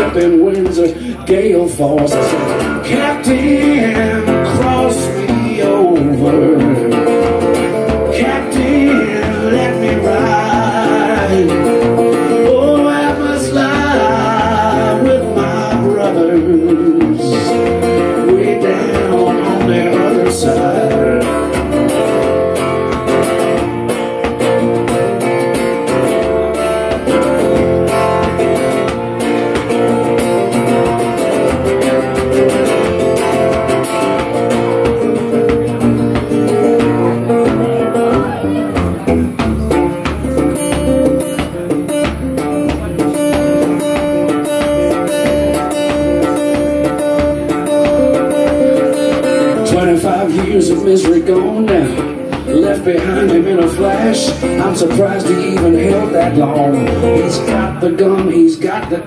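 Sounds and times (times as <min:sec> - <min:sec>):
electric blues guitar solo: 0:00.0 - 0:59.0.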